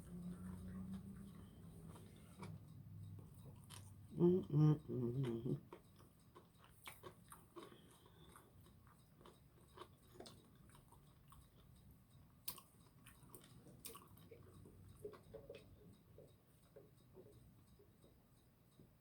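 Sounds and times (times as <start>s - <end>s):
chewing and crunching fried food: 0.0s - 18.1s.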